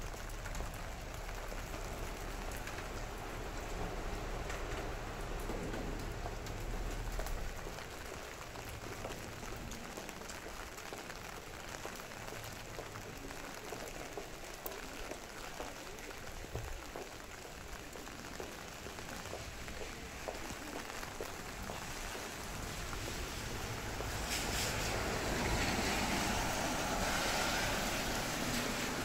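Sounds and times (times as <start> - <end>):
steady rain hiss: 0.0 - 29.0
sharp raindrop ticks: 0.1 - 29.0.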